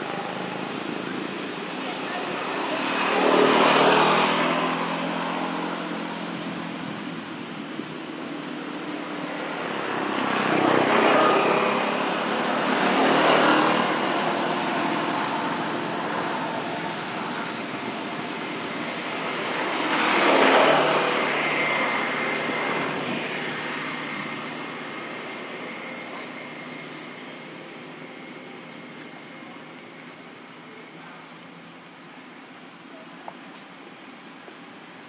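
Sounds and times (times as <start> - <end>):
vehicles passing by: 0.0 - 35.0.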